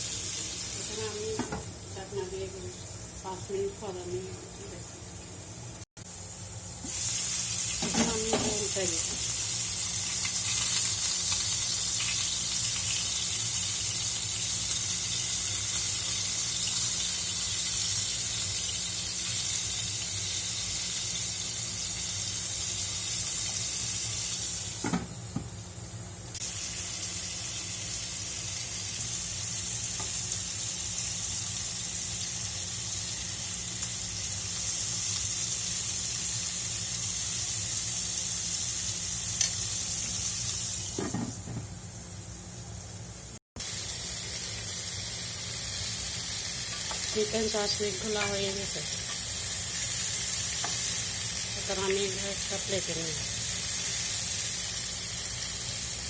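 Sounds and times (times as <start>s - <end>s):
meat sizzling in oil: 0.0s - 56.0s.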